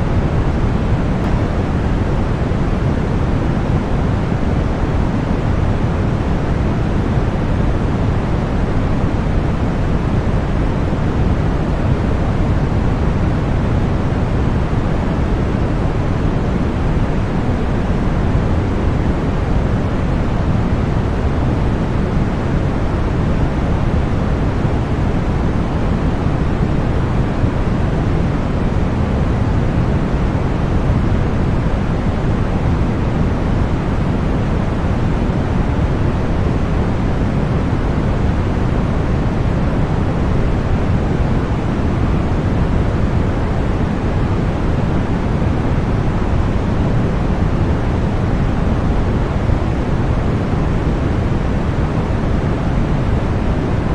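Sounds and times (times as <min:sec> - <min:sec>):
steady white noise hiss: 0:00.0 - 0:53.9.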